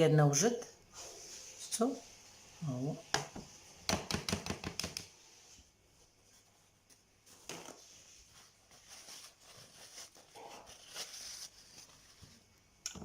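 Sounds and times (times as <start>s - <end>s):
low hiss: 0.0s - 13.0s.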